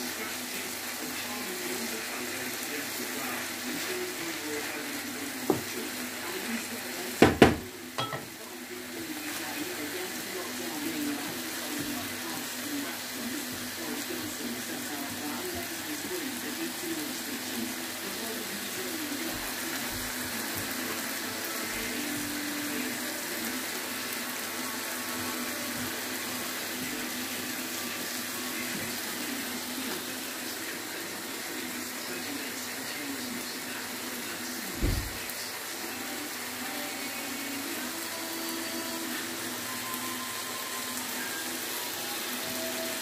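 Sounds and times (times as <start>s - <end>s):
stir-fry sizzling in a frying pan: 0.0s - 43.0s.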